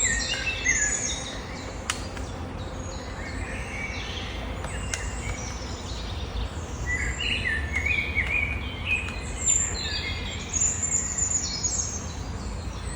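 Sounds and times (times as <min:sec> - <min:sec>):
songbirds singing: 0:00.0 - 0:12.9
steady low rumble: 0:00.0 - 0:12.9.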